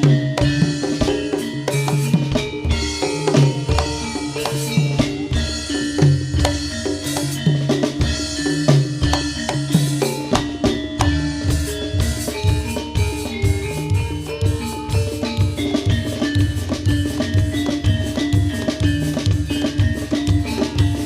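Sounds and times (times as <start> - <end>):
busy drumming: 0.0 - 21.0
sustained melodic notes: 0.0 - 21.0.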